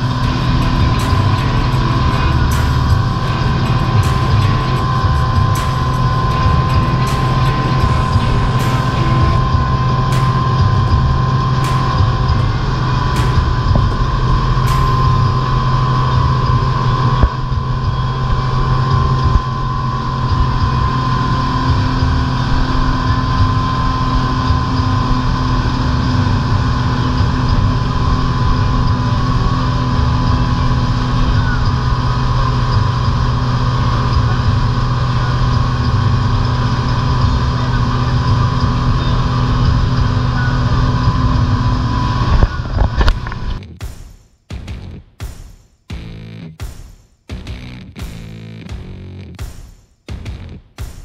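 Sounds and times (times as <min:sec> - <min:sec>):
outboard motors droning: 0:00.0 - 0:43.7.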